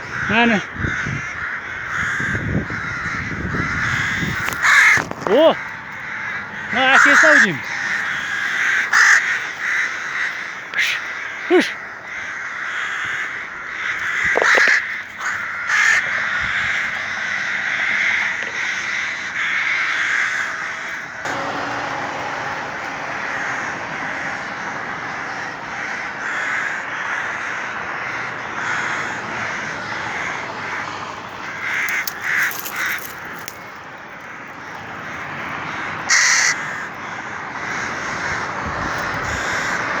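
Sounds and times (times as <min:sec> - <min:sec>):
crows cawing: 0:00.0 - 0:40.0.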